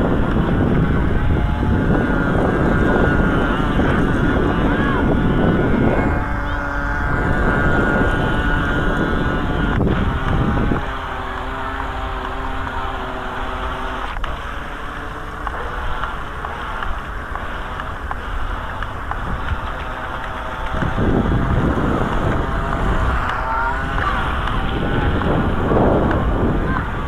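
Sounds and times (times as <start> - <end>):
toy boat electric motor whining: 0.0 - 27.0
wind buffeting microphone: 0.0 - 27.0.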